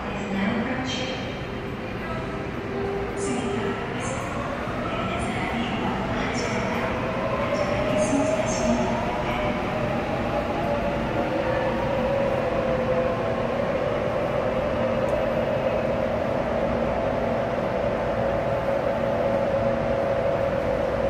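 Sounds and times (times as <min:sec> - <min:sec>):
subway train humming: 0:00.0 - 0:21.0.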